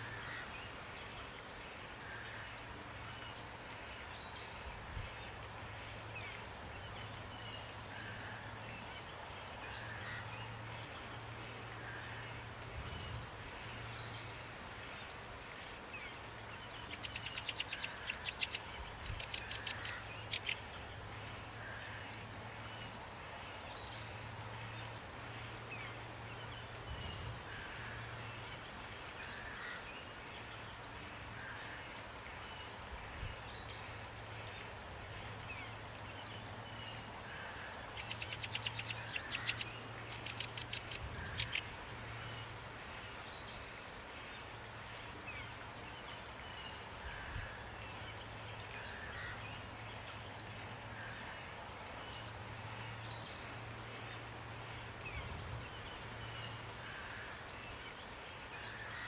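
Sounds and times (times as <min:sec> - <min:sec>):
rain hiss: 0:00.0 - 0:59.0
songbirds chirping: 0:00.0 - 0:59.0.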